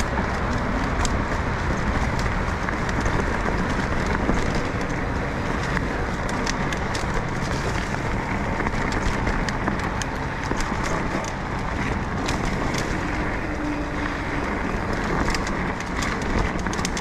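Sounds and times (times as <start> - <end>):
bike clicks and rattles: 0.0 - 17.0
wind and tyre noise: 0.0 - 17.0.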